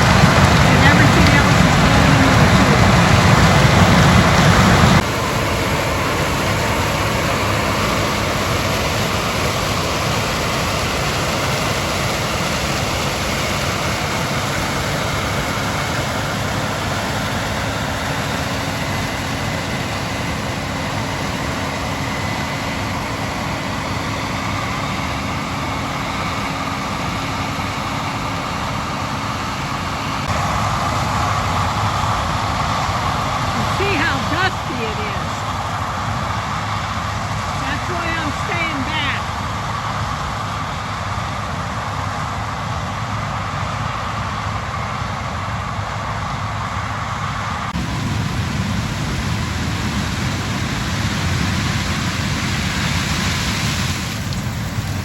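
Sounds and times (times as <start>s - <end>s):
harvesting machinery engines: 0.0s - 55.0s.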